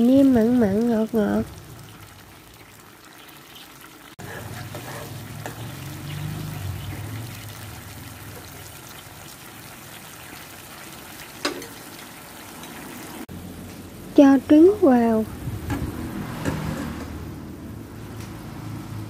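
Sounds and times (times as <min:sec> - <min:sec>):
sauce bubbling and sizzling: 0:00.0 - 0:19.0.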